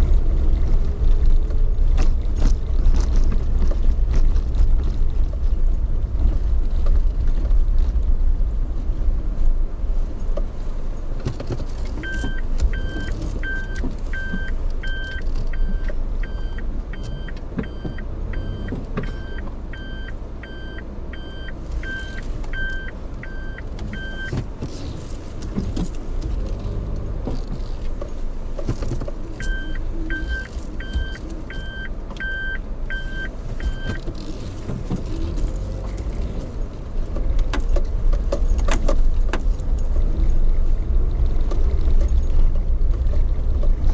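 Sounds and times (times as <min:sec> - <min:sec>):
vehicle rumble: 0:00.0 - 0:43.9.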